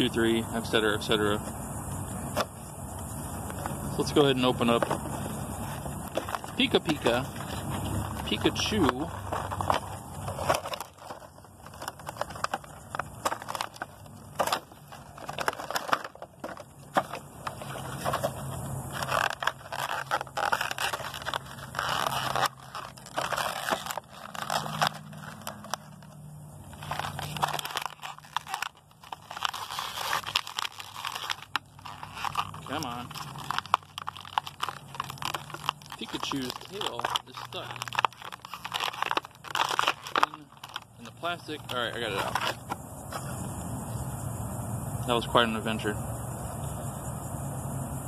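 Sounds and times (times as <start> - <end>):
plastic packaging crinkling: 3.5 - 42.8.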